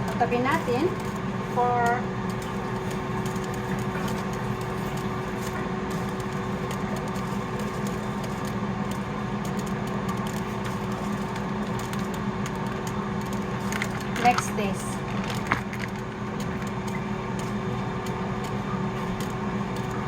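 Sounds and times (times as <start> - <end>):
air fryer fan hum: 0.0 - 20.0.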